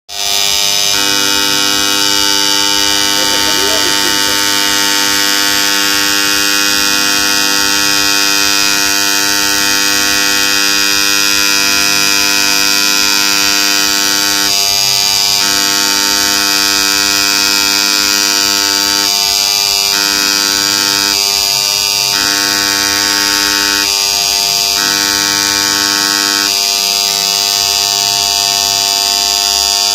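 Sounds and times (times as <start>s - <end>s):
engraving machine buzzing: 0.1s - 29.9s.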